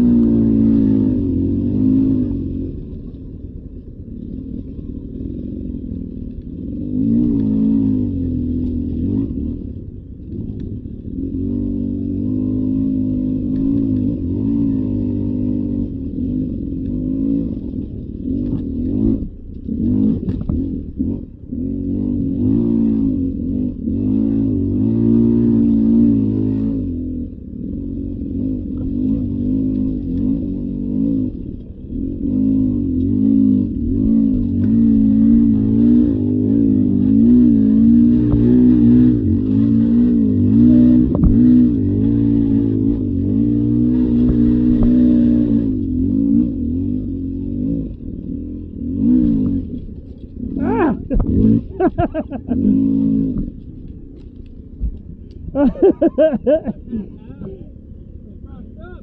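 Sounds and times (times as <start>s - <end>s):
dirt bike engine revving: 0.0s - 2.9s, 4.4s - 59.0s.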